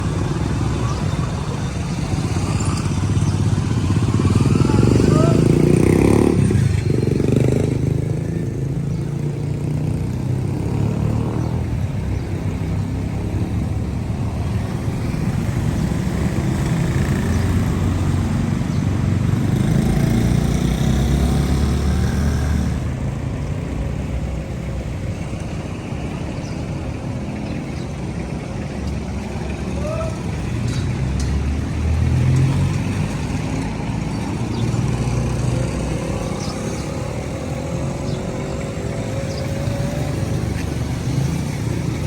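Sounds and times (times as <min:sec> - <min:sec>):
traffic engine rumble: 0:00.0 - 0:42.0.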